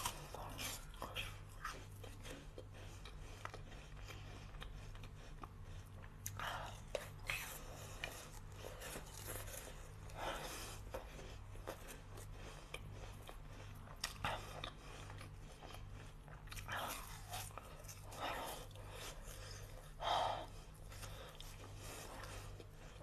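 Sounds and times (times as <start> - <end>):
chewing frozen fruit: 0.0 - 23.0.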